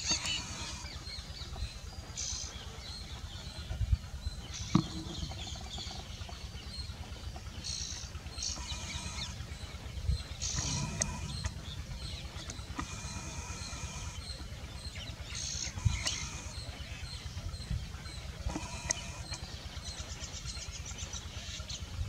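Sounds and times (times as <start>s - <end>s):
bird trill: 0.0s - 22.0s
small birds calling: 0.0s - 22.0s
steady low rumble: 0.0s - 22.0s.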